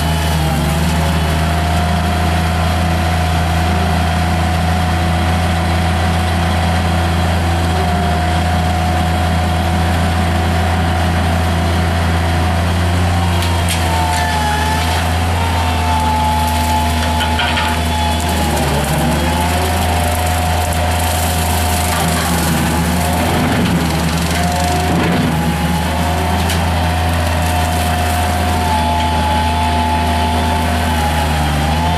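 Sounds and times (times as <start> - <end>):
loader engine with brush cutter: 0.0 - 31.9.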